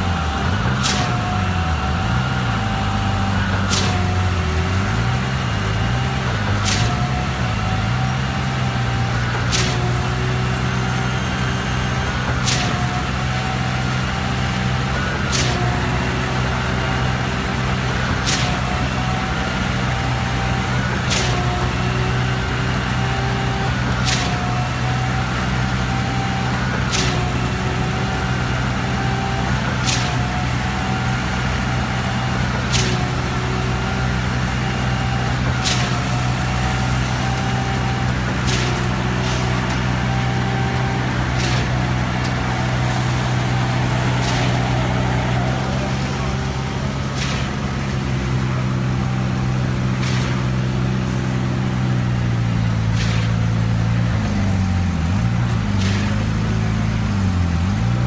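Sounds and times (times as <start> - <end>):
diesel engine droning: 0.0 - 58.0
pump whine: 0.0 - 58.0.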